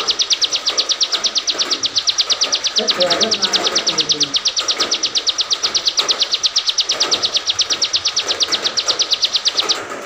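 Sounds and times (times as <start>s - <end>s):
bird singing high chirps: 0.0s - 9.9s.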